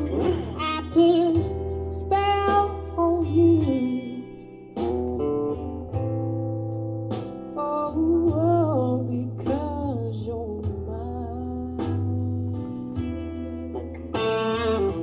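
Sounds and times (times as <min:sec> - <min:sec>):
song with vocals and guitar: 0:00.0 - 0:15.0.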